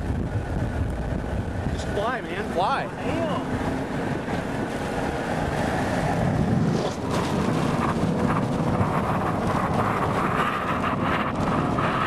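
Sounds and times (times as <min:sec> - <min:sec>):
car road and engine noise: 0:00.0 - 0:12.0
wind rushing past: 0:00.0 - 0:12.0.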